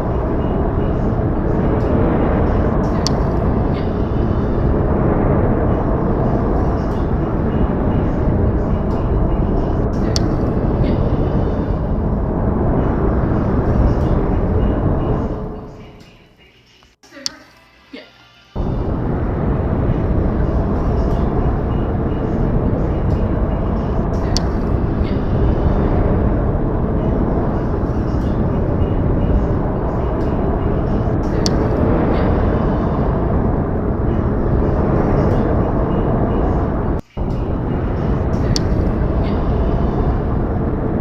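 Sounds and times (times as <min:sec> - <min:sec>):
wind rumbling: 0:00.0 - 0:16.4, 0:18.6 - 0:41.0.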